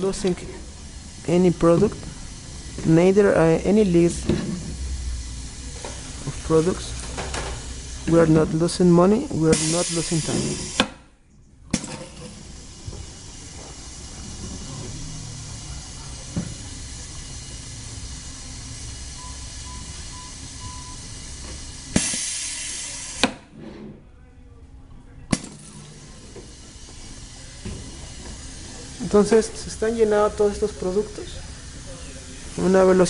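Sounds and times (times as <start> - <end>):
filling machine running: 0.0 - 10.9, 11.8 - 23.4, 25.3 - 33.0
air hiss: 0.0 - 11.0, 12.1 - 23.4, 25.4 - 33.0.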